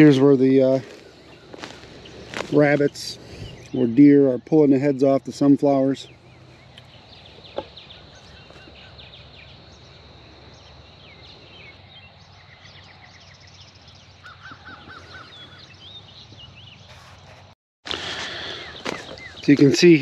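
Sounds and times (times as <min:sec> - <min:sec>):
birds singing and chirping: 0:00.0 - 0:20.0.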